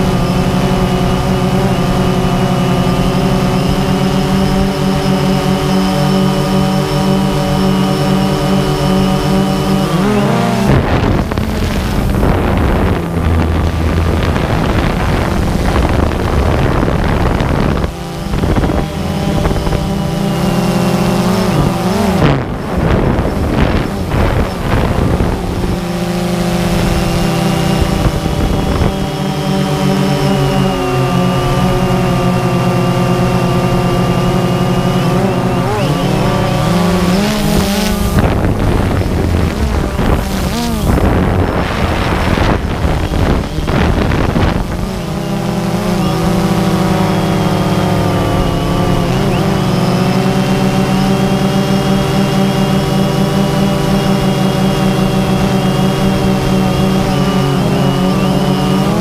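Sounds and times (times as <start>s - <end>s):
drone propellers buzzing: 0.0s - 59.0s
wind buffeting microphone: 0.0s - 59.0s.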